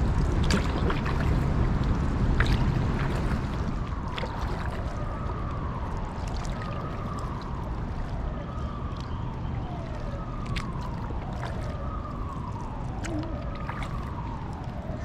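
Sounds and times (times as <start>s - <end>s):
paddle splashes and drips: 0.0s - 15.0s
rushing water and wind: 0.0s - 15.0s.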